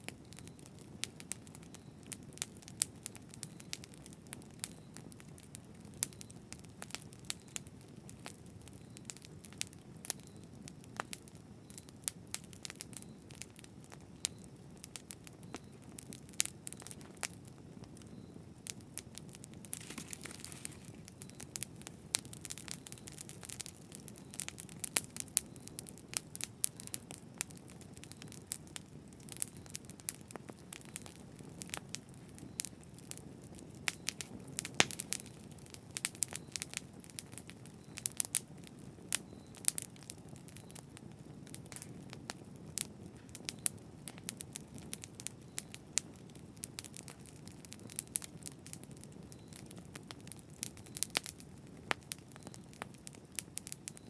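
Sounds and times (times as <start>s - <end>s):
burning wood crackling and popping: 0.0s - 54.0s
low rumble of flames: 0.0s - 54.0s.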